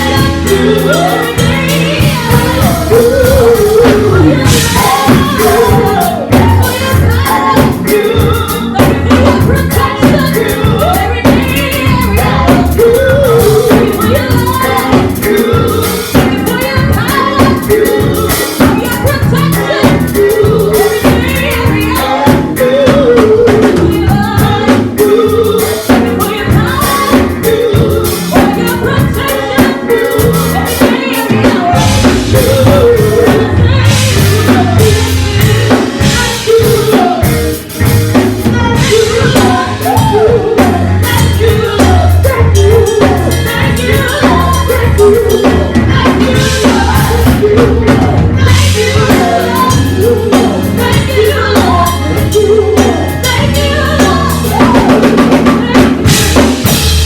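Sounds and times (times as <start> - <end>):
band with bass and drums: 0.0 - 57.0
gospel singing: 0.0 - 57.0.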